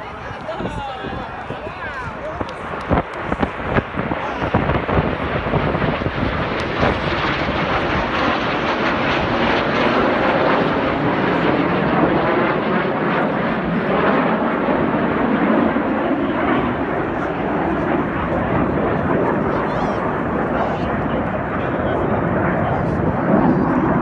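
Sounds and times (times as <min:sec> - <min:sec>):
aircraft engines droning overhead: 0:00.0 - 0:24.0.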